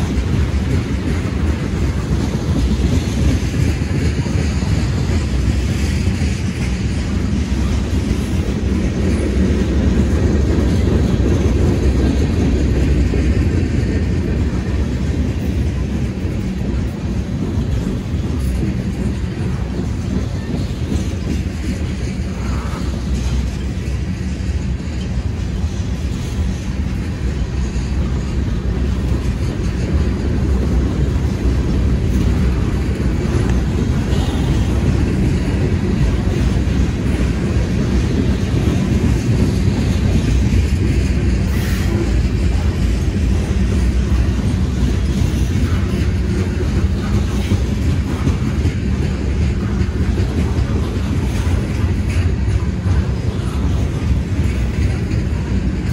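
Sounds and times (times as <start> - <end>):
freight train rumbling past: 0.0 - 55.9
wheels clacking over rail joints: 0.0 - 55.9.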